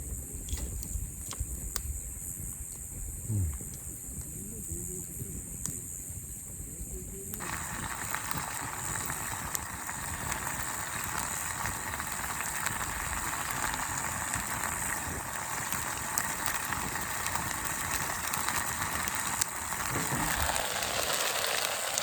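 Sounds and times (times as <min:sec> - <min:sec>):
fire pops and crackles: 0:00.0 - 0:22.0
meat sizzling on a grill: 0:00.0 - 0:22.0.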